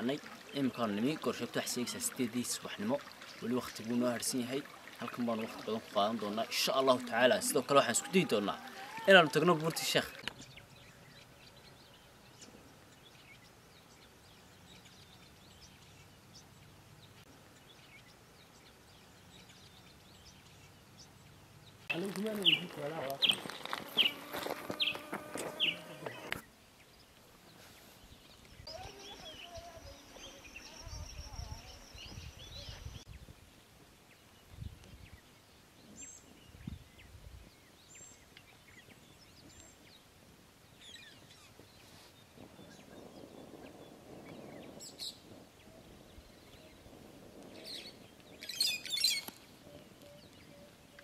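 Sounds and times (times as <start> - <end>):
birds chirping: 0.0 - 33.2, 33.9 - 51.0.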